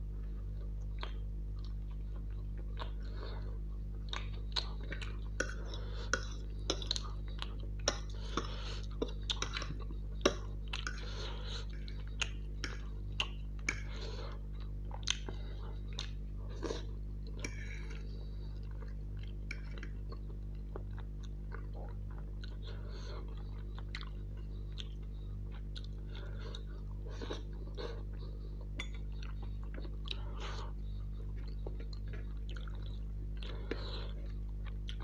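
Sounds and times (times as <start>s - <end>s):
low hum: 0.0s - 35.0s
chewing noodles: 0.2s - 35.0s.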